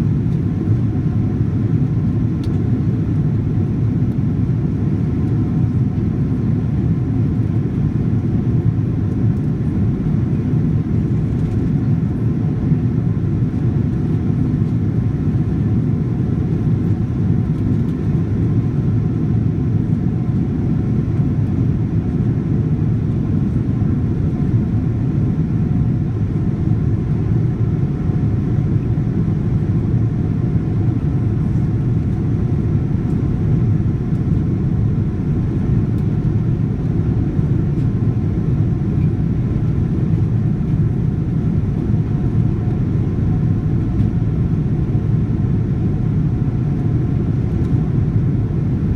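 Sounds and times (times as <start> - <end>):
jet engine rumble and rushing air: 0.0 - 48.9.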